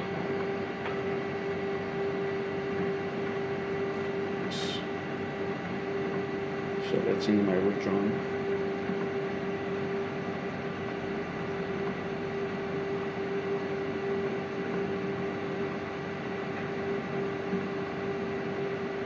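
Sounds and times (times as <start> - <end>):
machine hum and whir: 0.0 - 19.0.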